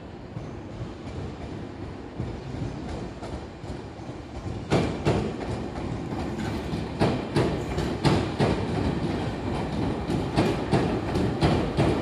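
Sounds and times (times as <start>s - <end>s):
electric train rumbling past: 0.0s - 12.0s
wheels clacking over rail joints: 0.4s - 12.0s.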